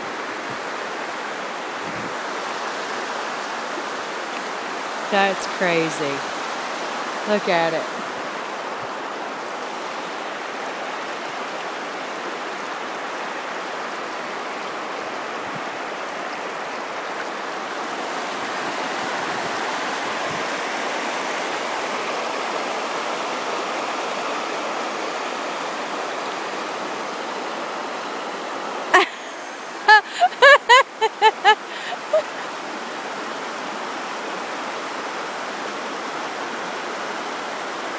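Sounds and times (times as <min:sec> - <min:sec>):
floodwater rushing over levee: 0:00.0 - 0:37.9.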